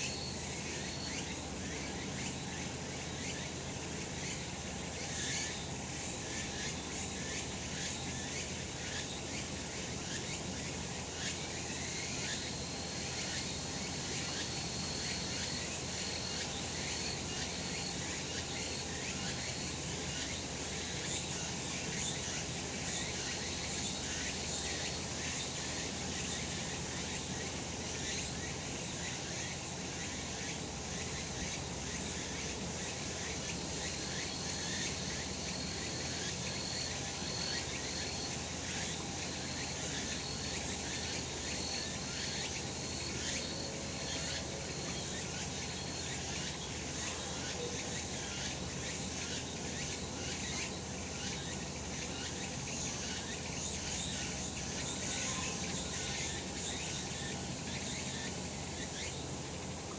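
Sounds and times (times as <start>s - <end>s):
cicadas buzzing chorus: 0.0s - 59.9s.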